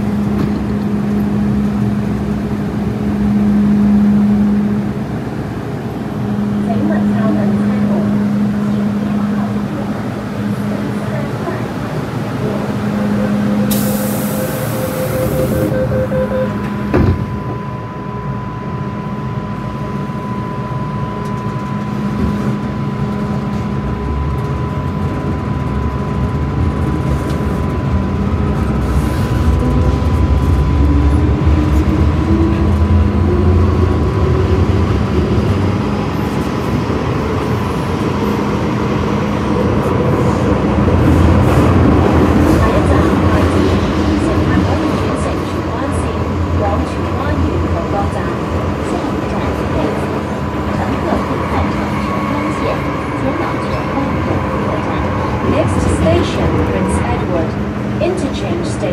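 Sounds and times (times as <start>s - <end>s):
metro train rumble with whine: 0.0s - 58.9s.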